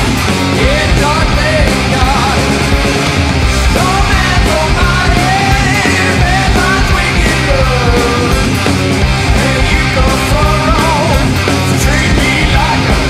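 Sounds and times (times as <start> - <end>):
rock band playing: 0.0 - 13.0
wavering lead guitar line: 0.0 - 13.0.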